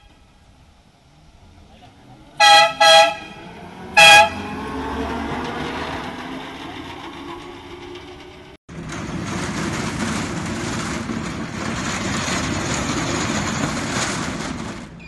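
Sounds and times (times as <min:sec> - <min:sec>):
motorised cart rumbling: 0:00.0 - 0:15.0.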